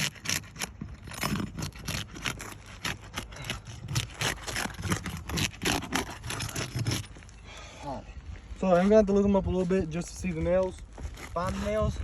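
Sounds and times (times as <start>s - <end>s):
tool scraping under shingles: 0.0s - 12.0s.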